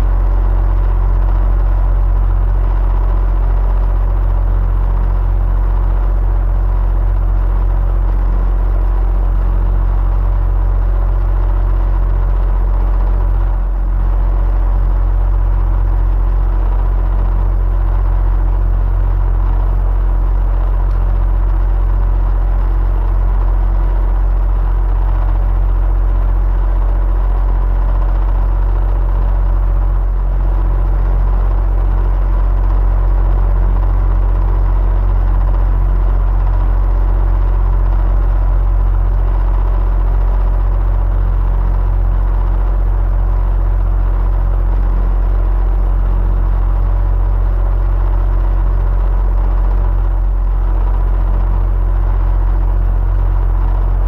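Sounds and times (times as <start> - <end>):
electric fan whirring: 0.0 - 54.0.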